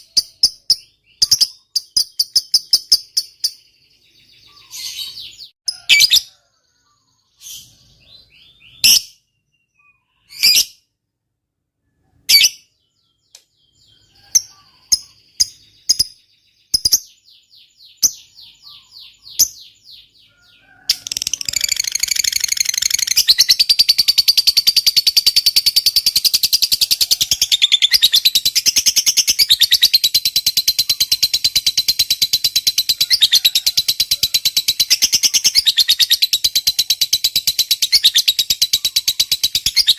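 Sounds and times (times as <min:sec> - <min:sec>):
lovebird chirping and trilling: 0:00.0 - 0:10.9, 0:11.9 - 0:39.9.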